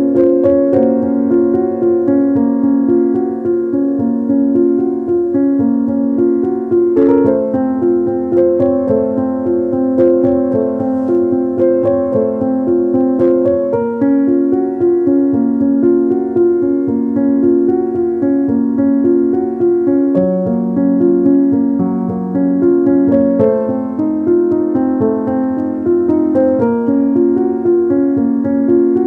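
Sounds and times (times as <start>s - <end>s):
soft piano melody: 0.0s - 29.0s.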